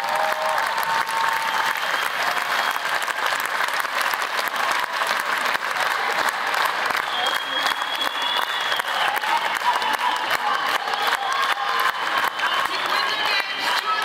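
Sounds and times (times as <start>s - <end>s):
large crowd applauding: 0.0s - 14.0s.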